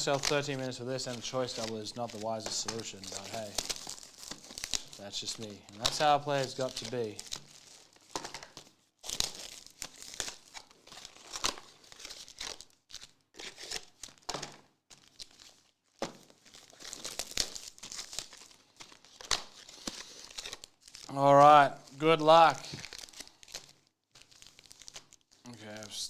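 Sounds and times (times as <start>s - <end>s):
plastic wrappers crinkling and tearing: 0.0s - 26.0s.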